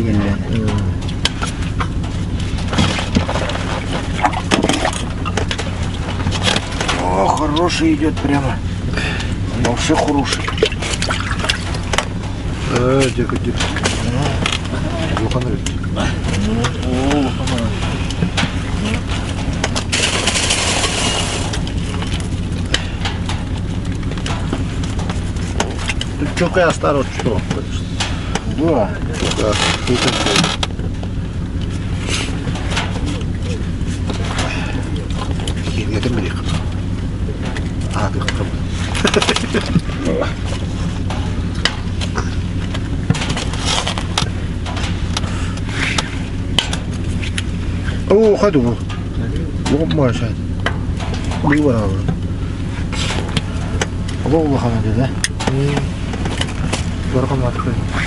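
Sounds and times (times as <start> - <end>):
low mechanical hum: 0.0 - 58.0
sharp clicks and knocks: 9.2 - 57.9.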